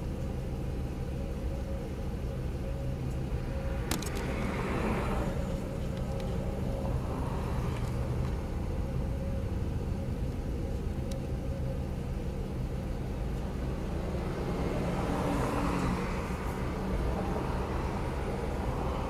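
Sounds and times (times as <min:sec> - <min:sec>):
car idling rumble: 0:00.0 - 0:19.0
passing traffic: 0:00.0 - 0:19.0.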